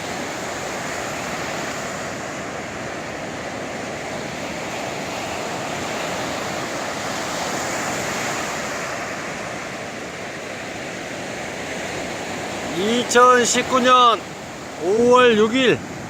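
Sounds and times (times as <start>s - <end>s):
sea waves breaking on shore: 0.0s - 16.0s.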